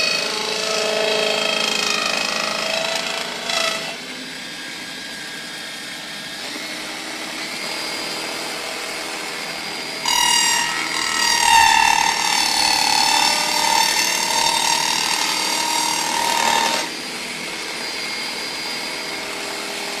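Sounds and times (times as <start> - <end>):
toy table saw whirring: 0.0 - 20.0.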